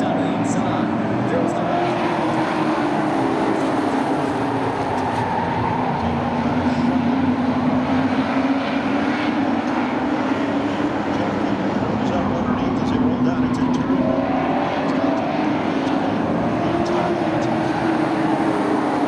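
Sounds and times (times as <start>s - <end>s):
race truck engines droning: 0.0s - 19.0s.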